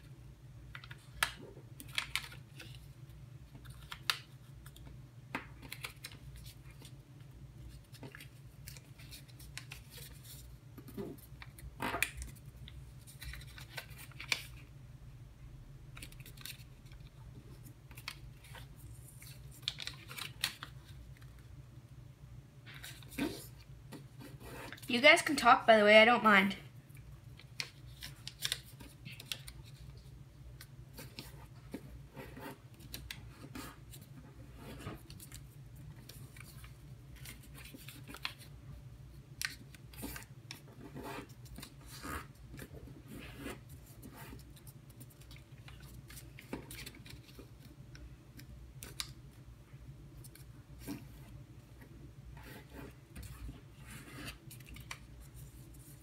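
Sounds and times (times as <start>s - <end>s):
low background hum: 0.0s - 56.0s
paper being folded and creased: 0.7s - 2.9s, 3.5s - 4.9s, 5.6s - 14.7s, 16.0s - 21.5s, 22.6s - 24.9s, 27.3s - 38.5s, 39.4s - 49.2s, 52.4s - 56.0s.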